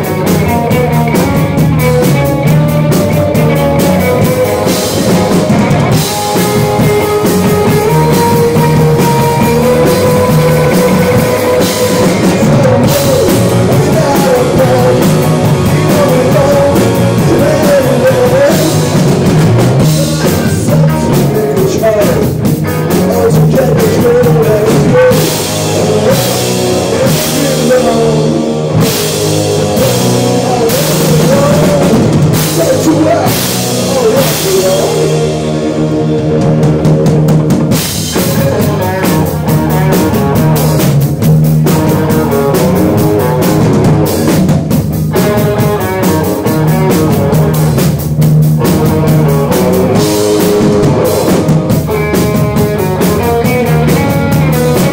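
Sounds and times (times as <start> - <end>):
bass guitar: 0.0 - 54.9
drum kit: 0.0 - 54.9
electric guitars: 0.0 - 54.9.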